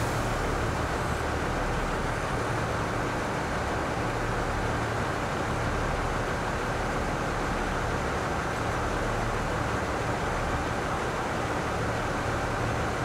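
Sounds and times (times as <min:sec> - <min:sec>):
diesel railcar engines idling: 0:00.0 - 0:13.0.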